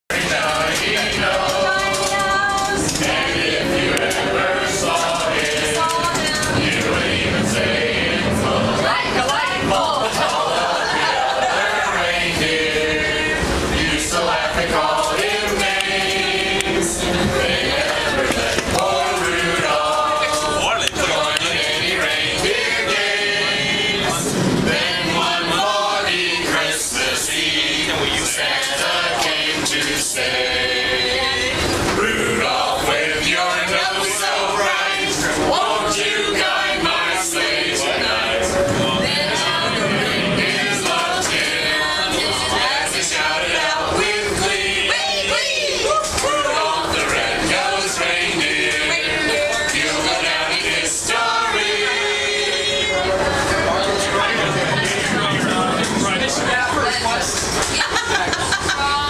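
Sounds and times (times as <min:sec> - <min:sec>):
group singing a carol: 0:00.1 - 0:59.0.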